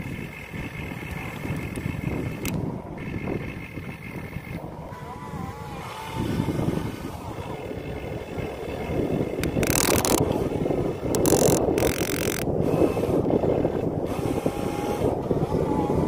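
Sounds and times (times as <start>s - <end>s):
toy excavator mechanical clatter: 0.0s - 16.0s
wind on microphone: 0.0s - 16.0s.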